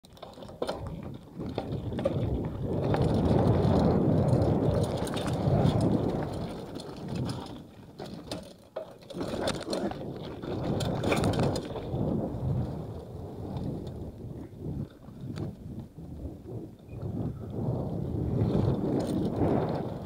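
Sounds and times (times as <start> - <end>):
bike rattling over bumps: 0.0 - 20.0
wind: 0.0 - 20.0.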